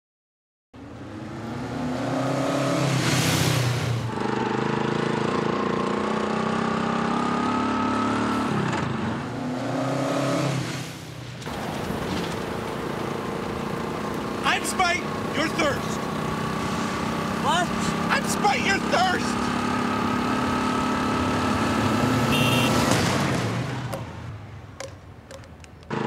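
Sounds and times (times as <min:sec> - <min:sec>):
motorcycle engine accelerating: 0:00.8 - 0:10.9, 0:11.5 - 0:26.0.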